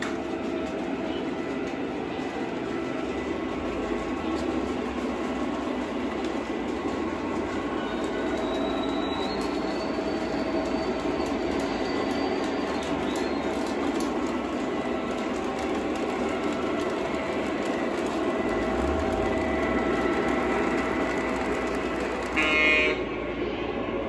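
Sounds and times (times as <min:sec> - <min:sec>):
model trains rolling rumble: 0:00.0 - 0:24.0.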